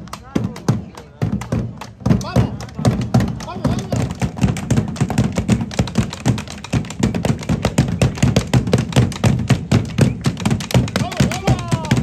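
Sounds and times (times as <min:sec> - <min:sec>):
fast irregular knocks and thumps: 0:00.0 - 0:12.0.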